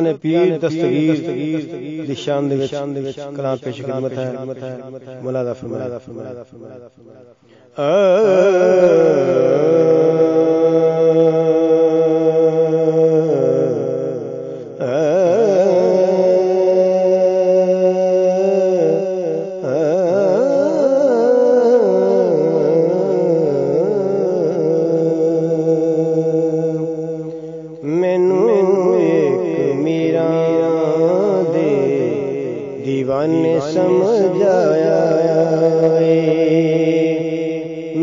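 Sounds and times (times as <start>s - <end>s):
person singing devotional song: 0.0s - 38.0s.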